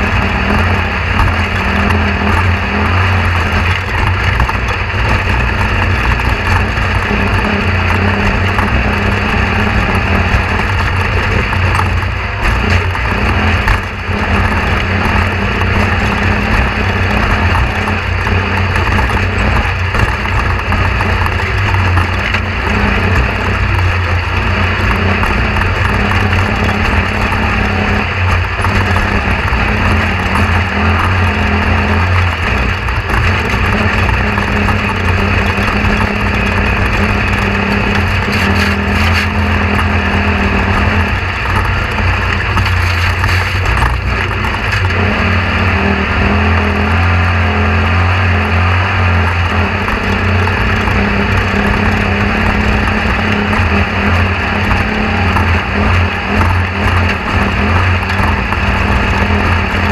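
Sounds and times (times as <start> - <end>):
loud mechanical drone: 0.0 - 59.9.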